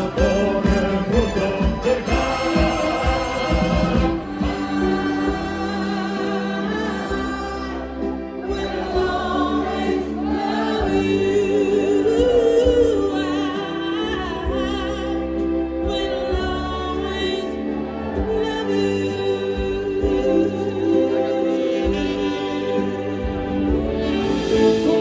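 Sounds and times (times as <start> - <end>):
orchestra playing: 0.0 - 25.0
woman singing with vibrato: 0.0 - 25.0.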